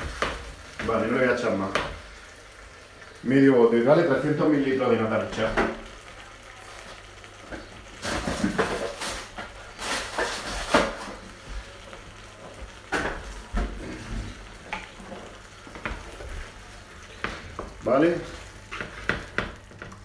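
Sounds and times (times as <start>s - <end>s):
faint sizzle in frying pan: 0.0s - 20.0s.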